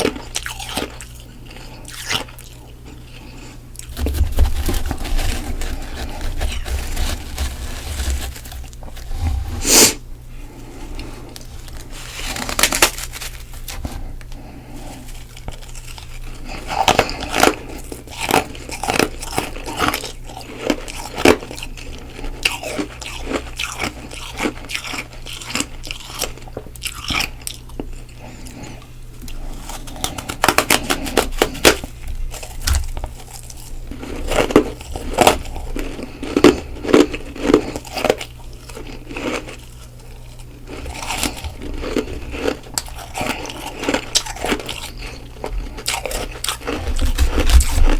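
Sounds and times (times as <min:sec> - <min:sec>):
frost being chewed: 0:00.0 - 0:47.9.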